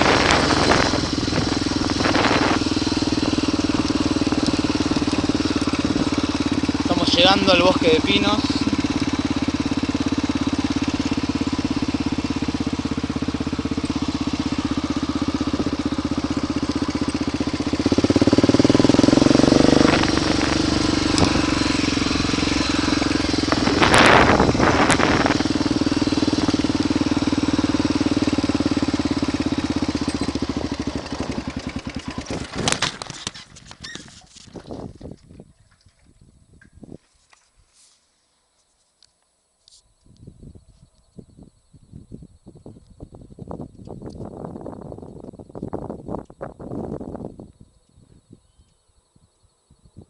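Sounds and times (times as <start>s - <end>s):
motorcycle engine running: 0.0s - 37.0s, 41.9s - 47.7s.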